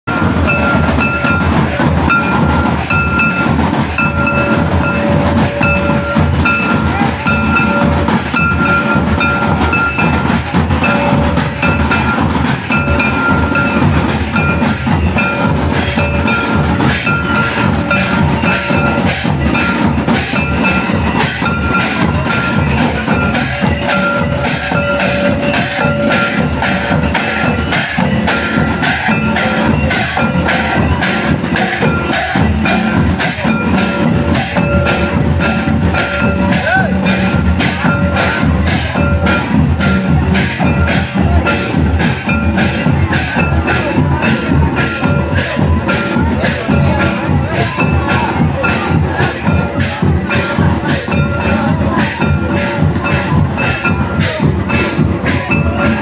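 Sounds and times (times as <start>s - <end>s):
drums beating: 0.0s - 56.0s
high ringing note: 0.1s - 56.0s.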